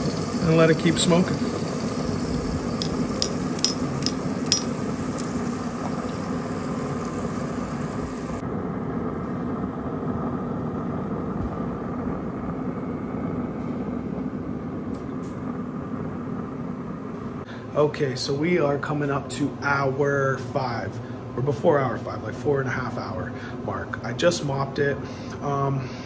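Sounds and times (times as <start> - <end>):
grill fan humming: 0.0 - 26.0.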